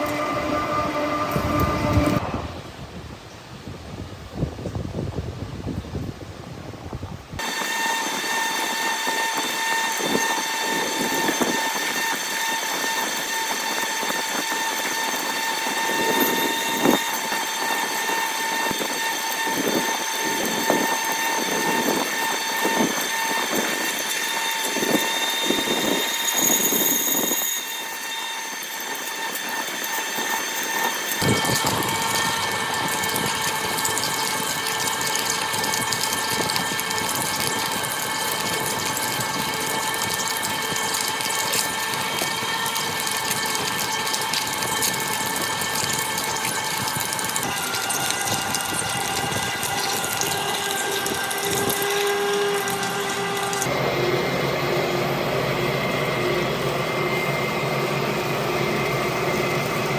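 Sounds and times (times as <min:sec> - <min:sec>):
metal lathe machining metal: 0:00.0 - 0:02.4, 0:07.4 - 0:59.9.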